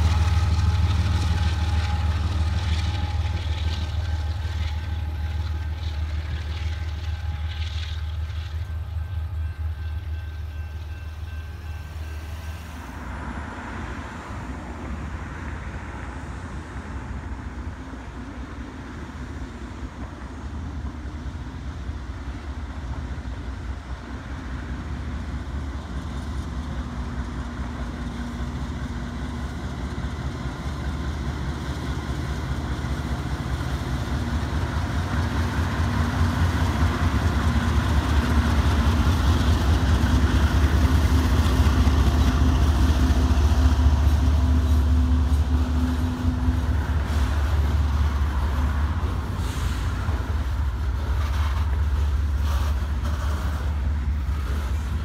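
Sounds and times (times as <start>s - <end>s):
diesel locomotive engine rumbling: 0.0s - 55.0s.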